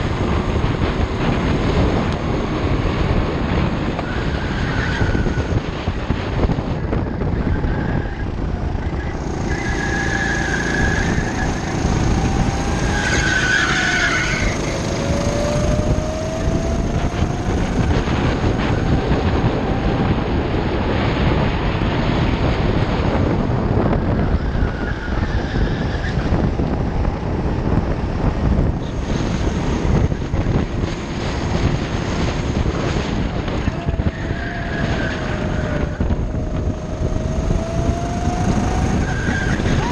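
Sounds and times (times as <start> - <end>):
go-kart engine running hard: 0.0 - 39.9
rushing wind noise: 0.0 - 39.9.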